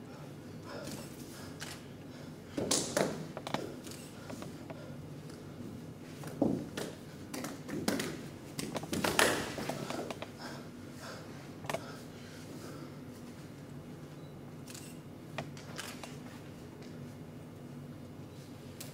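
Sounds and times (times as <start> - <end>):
low hum of hall: 0.0 - 18.9.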